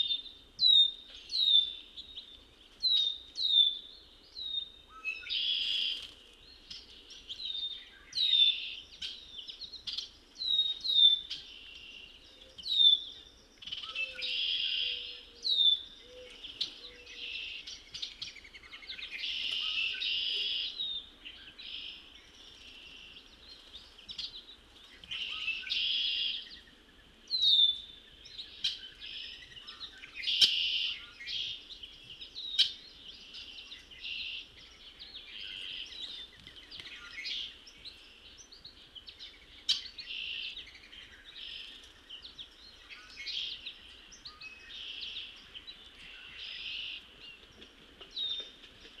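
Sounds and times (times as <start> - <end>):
songbirds singing: 0.0 - 49.0.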